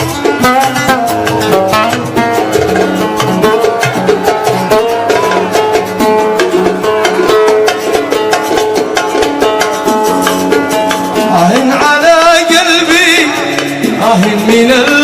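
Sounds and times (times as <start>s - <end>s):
plucked-string melody: 0.0s - 15.0s
steady percussion: 0.0s - 15.0s.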